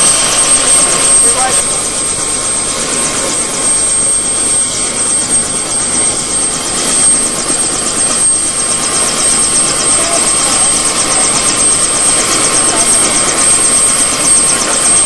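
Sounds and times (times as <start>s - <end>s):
helicopter rotor chop: 0.0s - 15.0s
helicopter turbine whine: 0.0s - 15.0s.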